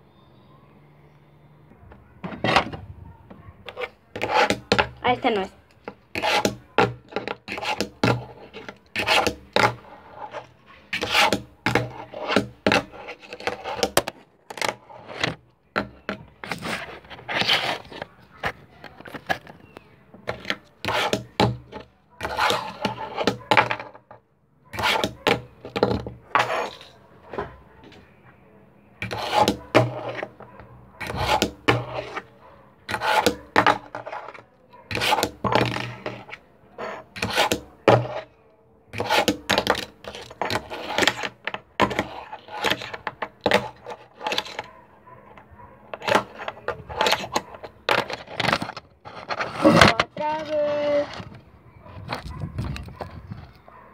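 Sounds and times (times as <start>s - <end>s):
small wheels scraping and rolling: 1.9s - 28.1s, 29.0s - 53.9s.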